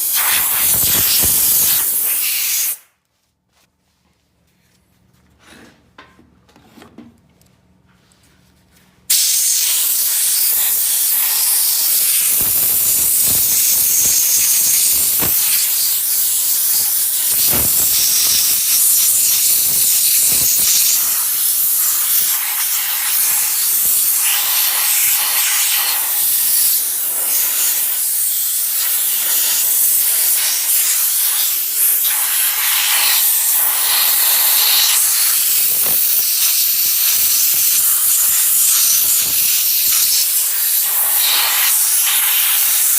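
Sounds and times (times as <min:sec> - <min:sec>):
compressed air hissing: 0:00.0 - 0:02.9, 0:09.1 - 0:42.9.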